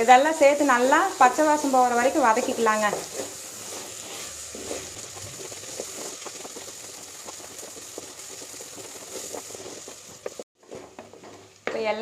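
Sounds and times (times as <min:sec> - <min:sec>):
food sizzling in hot oil: 0:00.0 - 0:10.5.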